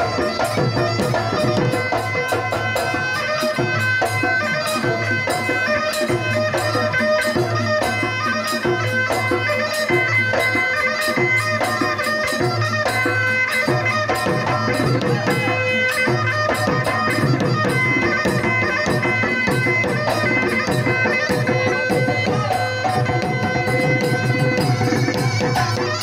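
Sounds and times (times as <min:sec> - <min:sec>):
drum beat: 0:00.0 - 0:26.0
reedy wind instrument: 0:00.0 - 0:26.0.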